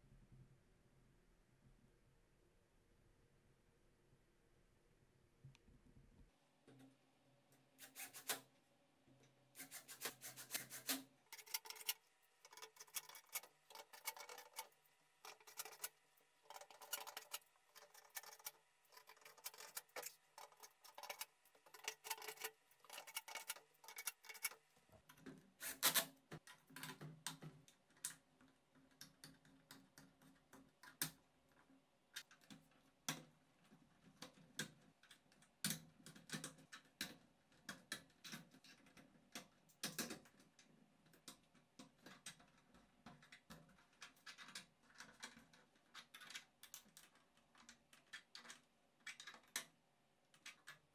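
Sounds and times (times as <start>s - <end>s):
plastic parts clicking and tapping: 9.2s - 50.9s.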